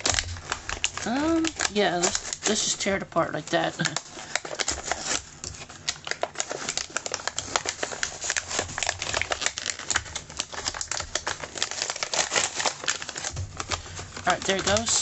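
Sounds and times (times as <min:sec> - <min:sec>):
blister packaging tearing: 0:00.0 - 0:15.0.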